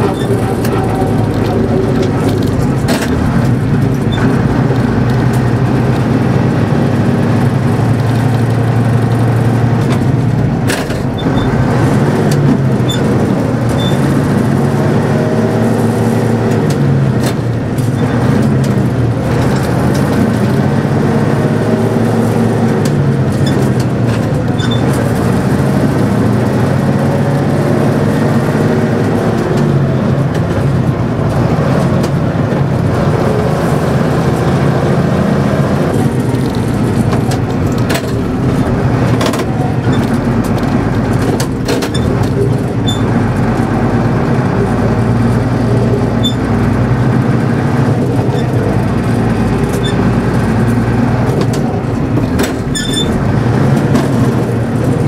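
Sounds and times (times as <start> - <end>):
gearbox clunks: 0.0 - 27.5, 28.5 - 55.0
diesel truck engine running: 0.0 - 55.0.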